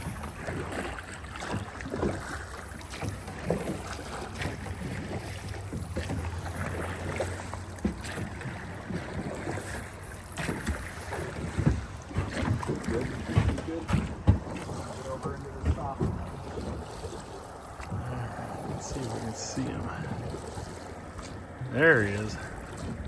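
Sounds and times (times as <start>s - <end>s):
water splashing around a boat: 0.0s - 23.0s.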